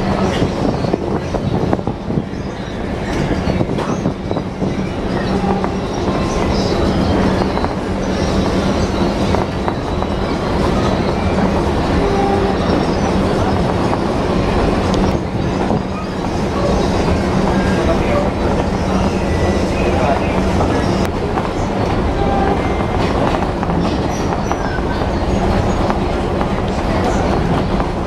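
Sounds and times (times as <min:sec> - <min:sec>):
train running on tracks: 0:00.0 - 0:28.0.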